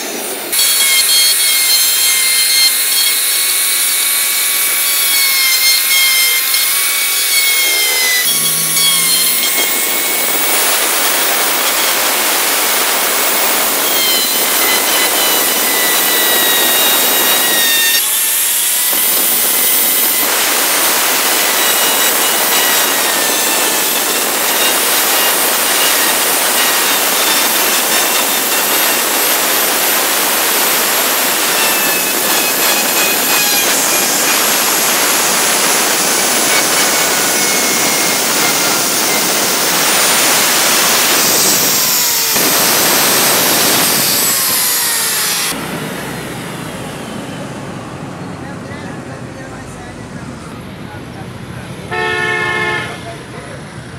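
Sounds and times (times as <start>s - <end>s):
router bit rasping into wood: 0.0s - 45.6s
electric router high whine: 0.0s - 48.0s.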